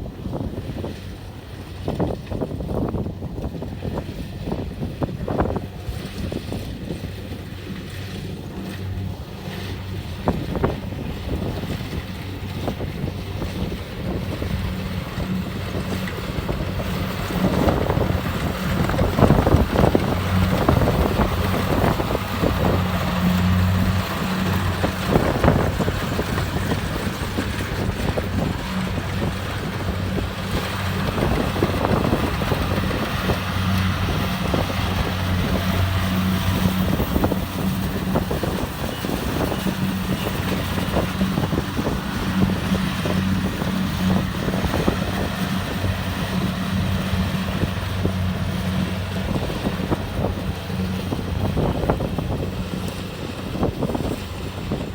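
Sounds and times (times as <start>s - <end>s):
combine harvester engine humming: 0.0s - 54.9s.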